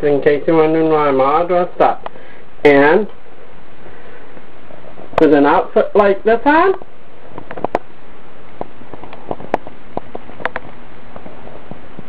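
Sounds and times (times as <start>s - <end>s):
steady recording hiss: 0.0s - 12.0s.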